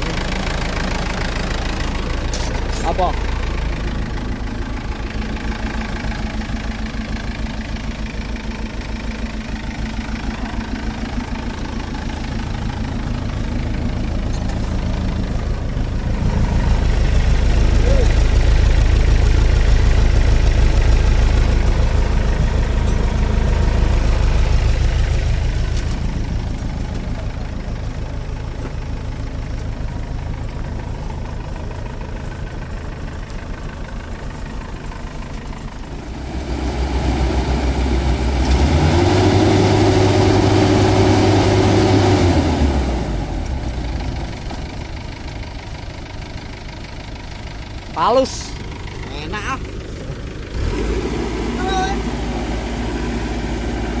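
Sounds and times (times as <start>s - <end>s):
engine idling and revving: 0.0s - 54.0s.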